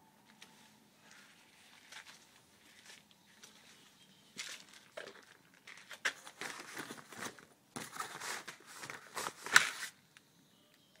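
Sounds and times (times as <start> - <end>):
fabric cover rustling: 0.6 - 9.9.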